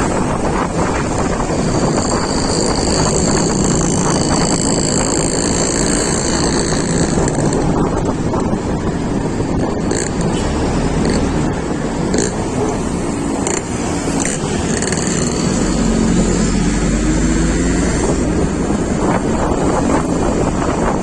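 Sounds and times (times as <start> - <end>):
vehicle road and engine noise: 0.0 - 21.0
wind buffeting microphone: 0.0 - 21.0.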